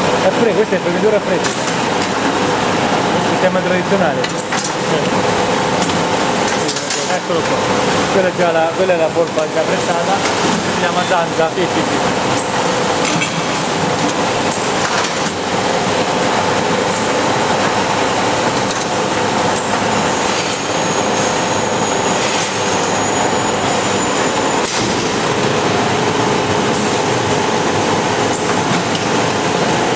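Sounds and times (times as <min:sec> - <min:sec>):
mill machinery running: 0:00.0 - 0:29.9.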